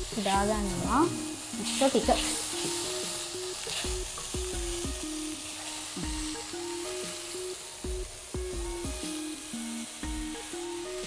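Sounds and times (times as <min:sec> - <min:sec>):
prawns sizzling in a wok: 0:00.0 - 0:11.0.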